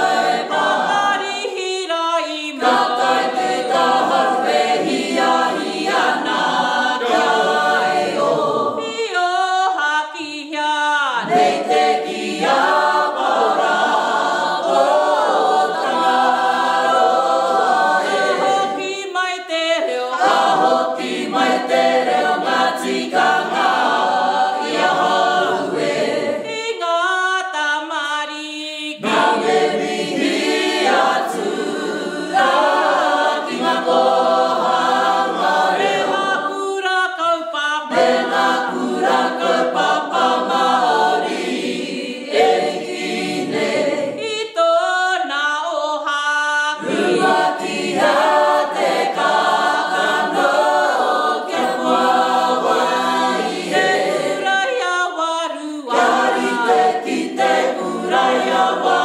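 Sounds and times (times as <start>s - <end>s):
group singing unaccompanied: 0.0s - 59.0s.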